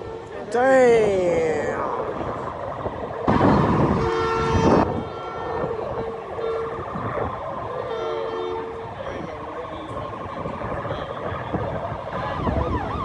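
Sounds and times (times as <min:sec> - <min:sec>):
emergency vehicle siren: 0:00.0 - 0:13.0
loud rush of noise: 0:00.0 - 0:13.0.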